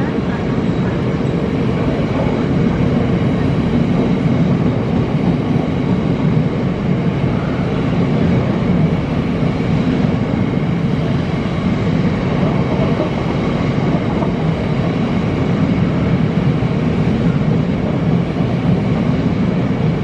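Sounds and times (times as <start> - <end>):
freight train passing: 0.0 - 20.0.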